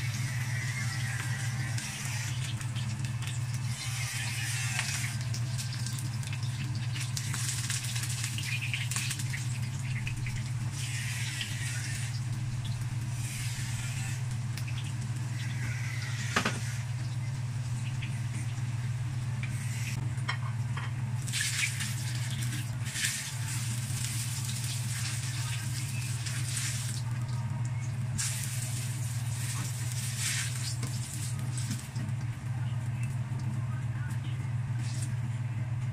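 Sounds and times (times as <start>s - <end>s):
eggplant sizzling in oil: 0.0s - 20.0s, 21.2s - 27.0s, 28.1s - 32.0s
steady low hum: 0.0s - 35.9s.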